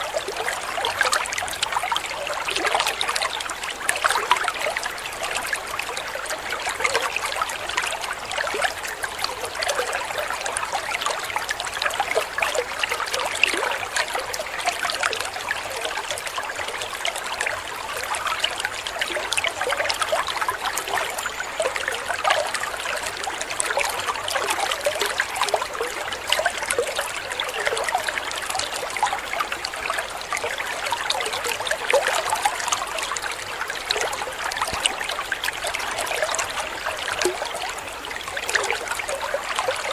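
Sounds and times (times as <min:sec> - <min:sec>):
waterfall trickling and splashing: 0:00.0 - 0:39.9.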